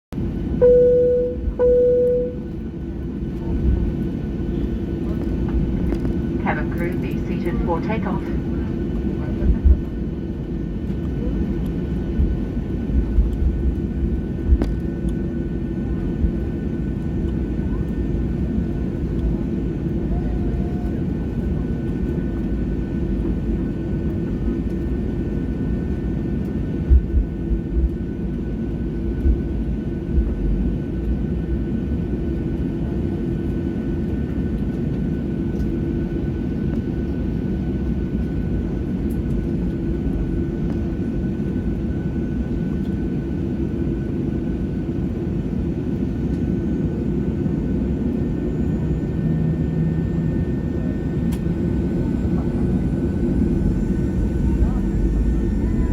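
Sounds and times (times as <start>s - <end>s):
jet engines humming: 0.2s - 55.9s.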